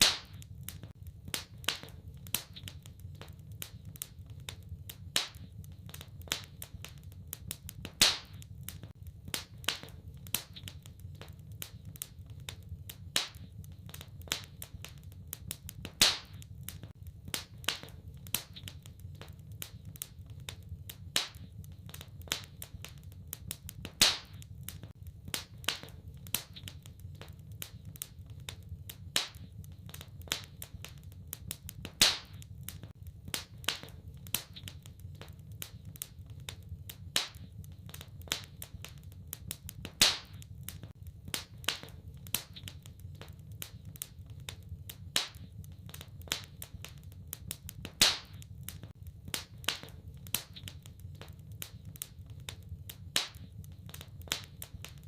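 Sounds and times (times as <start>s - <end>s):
fireplace wood fire crackling: 0.0s - 55.0s.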